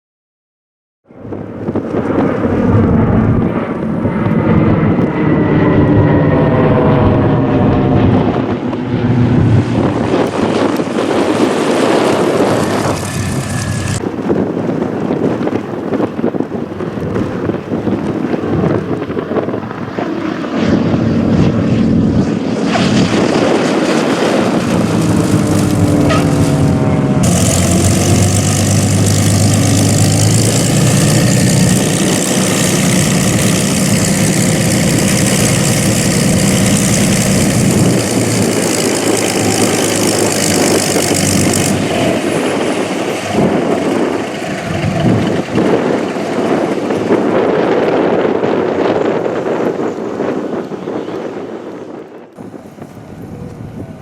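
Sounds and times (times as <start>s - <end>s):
propeller airplanes flying past: 1.1s - 54.0s.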